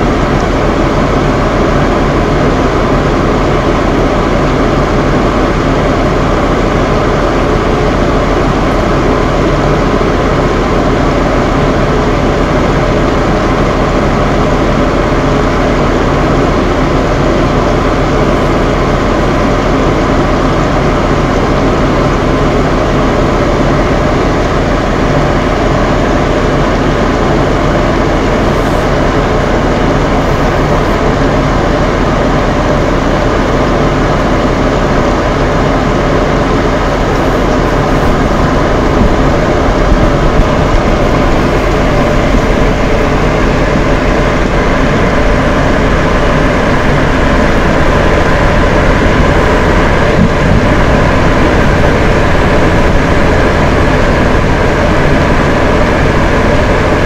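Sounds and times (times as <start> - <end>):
fan heaters whirring: 0.0 - 57.0.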